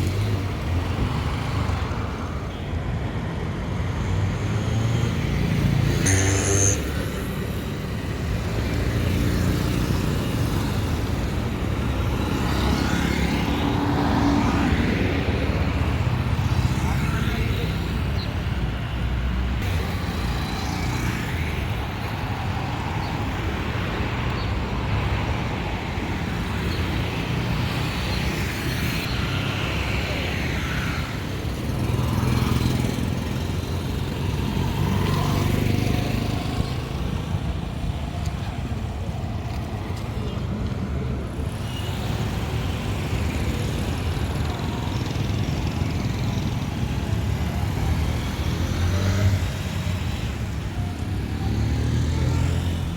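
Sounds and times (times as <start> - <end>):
motor vehicles passing: 3.9 - 52.9.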